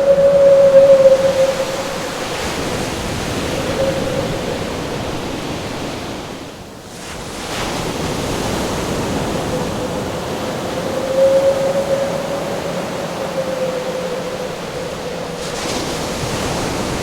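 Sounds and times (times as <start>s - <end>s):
wind howling: 0.0s - 6.6s, 7.8s - 17.0s
crashing ocean waves: 0.0s - 17.0s.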